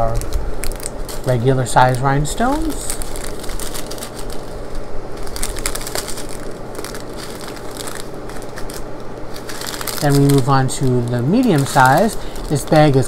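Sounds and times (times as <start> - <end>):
plastic bags crinkling: 0.0 - 13.0
tiny beads crackling in bag: 0.0 - 13.0.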